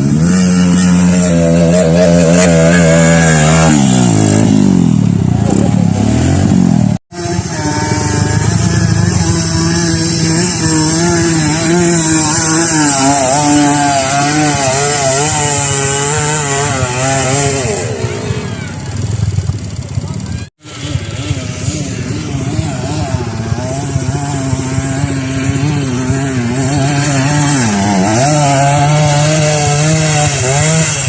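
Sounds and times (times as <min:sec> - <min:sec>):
motorcycle engine at high revs: 0:00.0 - 0:31.0.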